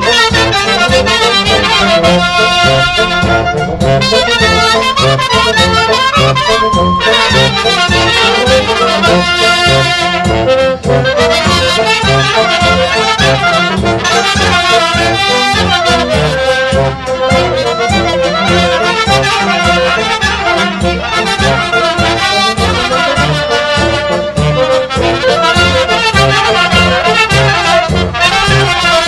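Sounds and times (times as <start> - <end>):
brass band playing folk music: 0.0 - 29.0.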